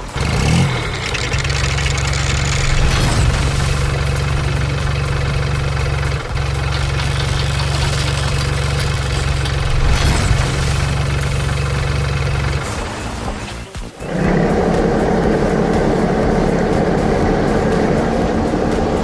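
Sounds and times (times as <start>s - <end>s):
heavy machine engine droning: 0.0s - 19.0s.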